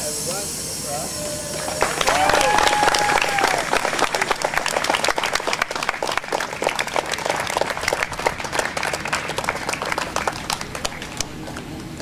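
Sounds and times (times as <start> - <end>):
crowd applauding: 1.5 - 12.0.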